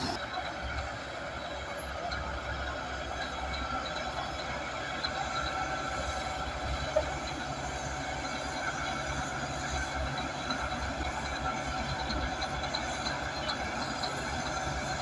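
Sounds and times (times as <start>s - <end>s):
bulldozer diesel engine rumbling: 0.0s - 15.0s
steel tracks clattering and squeaking: 0.0s - 15.0s.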